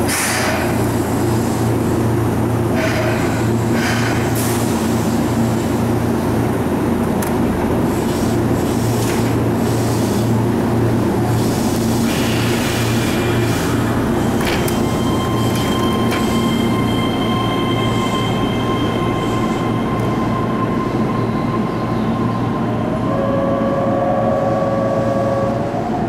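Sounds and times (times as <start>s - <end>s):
train equipment humming: 0.0s - 26.0s.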